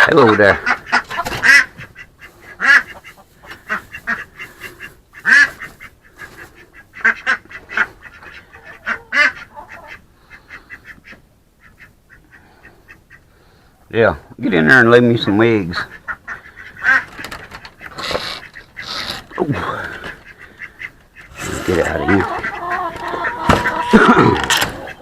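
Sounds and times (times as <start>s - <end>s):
duck quacking: 0.0s - 13.3s, 15.6s - 25.0s.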